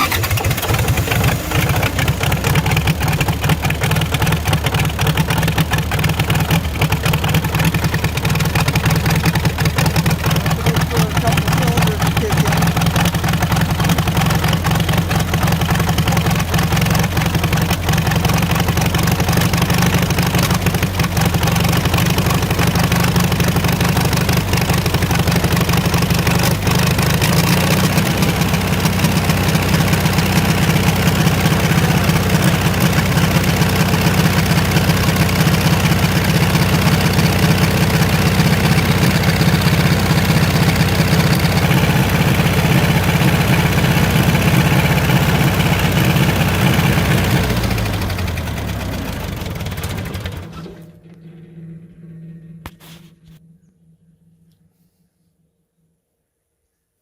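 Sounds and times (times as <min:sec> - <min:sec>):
diesel generator running: 0:00.0 - 0:53.4.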